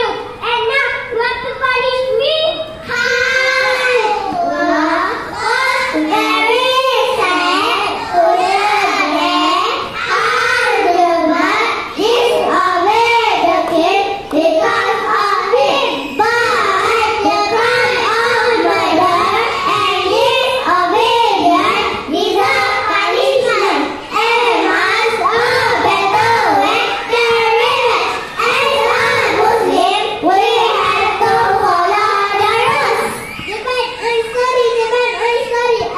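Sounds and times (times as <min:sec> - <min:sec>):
children singing in unison: 0:02.8 - 0:33.6.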